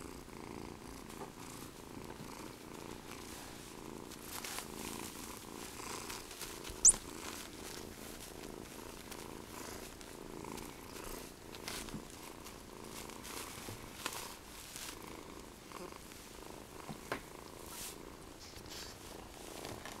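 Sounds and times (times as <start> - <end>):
kitten purring: 0.0 - 20.0.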